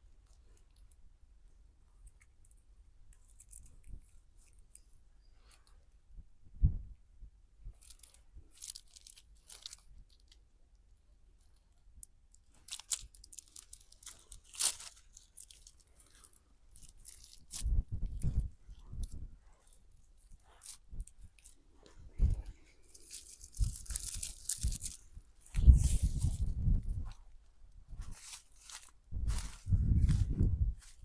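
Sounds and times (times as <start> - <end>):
crunching and crackling: 2.0 - 5.0, 7.7 - 10.5, 11.4 - 31.0.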